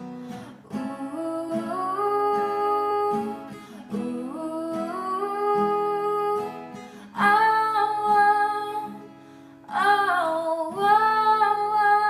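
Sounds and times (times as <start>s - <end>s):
plucked guitar: 0.0s - 12.0s
girl singing wordless notes: 0.3s - 12.0s.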